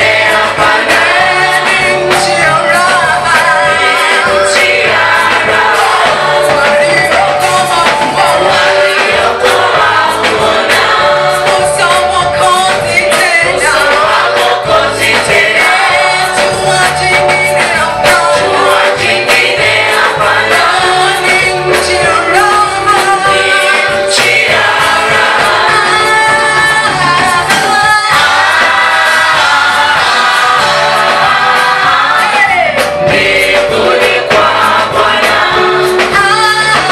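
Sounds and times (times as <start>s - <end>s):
gospel choir singing in harmony: 0.0s - 36.9s
instrumental backing with bass line: 0.0s - 36.9s.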